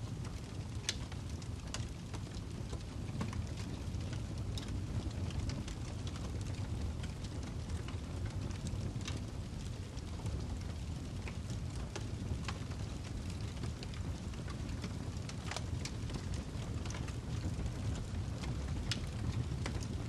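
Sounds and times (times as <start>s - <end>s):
burning log crackling and popping: 0.0s - 20.0s
low rumble of flames: 0.0s - 20.0s.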